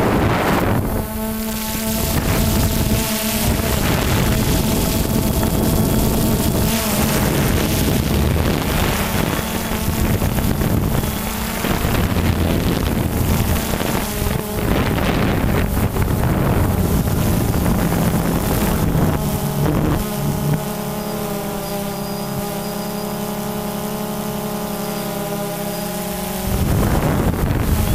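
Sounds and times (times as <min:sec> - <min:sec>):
wind buffeting microphone: 0:00.0 - 0:24.6, 0:26.2 - 0:27.9
drone propellers humming: 0:00.0 - 0:27.9.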